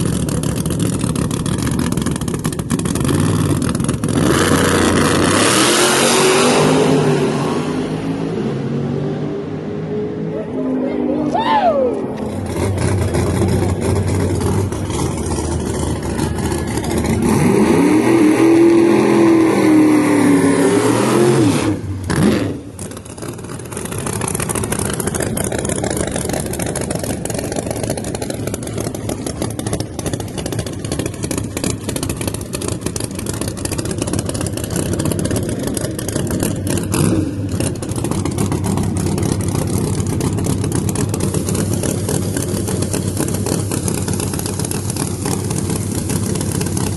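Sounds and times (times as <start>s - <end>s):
drag car engine revving: 0.0s - 46.9s.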